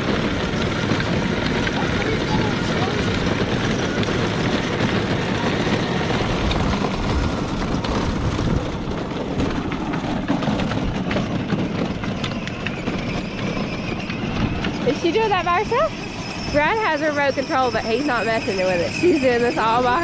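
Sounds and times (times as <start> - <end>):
electric toy car motor: 0.0 - 20.0
plastic wheels rumbling on pavement: 0.0 - 20.0.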